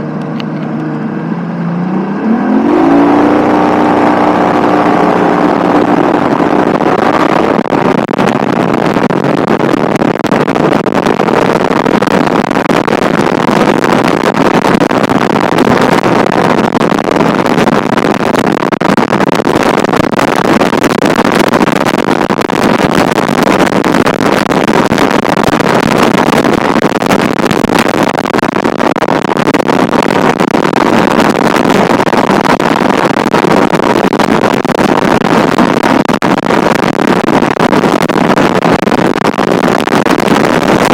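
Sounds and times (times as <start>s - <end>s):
wind rushing on microphone: 1.9s - 40.9s.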